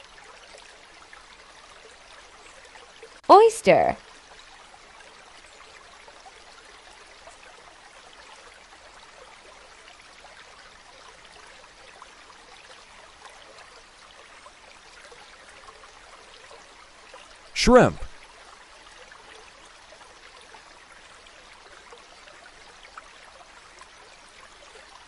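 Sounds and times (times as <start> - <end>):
faint flowing water: 0.0 - 25.0.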